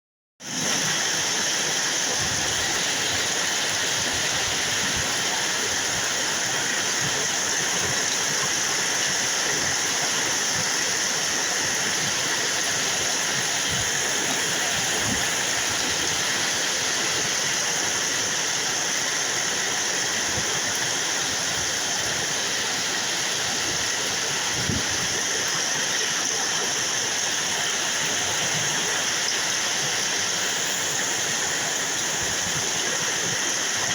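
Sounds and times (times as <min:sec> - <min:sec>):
heavy rain falling: 0:00.4 - 0:33.9.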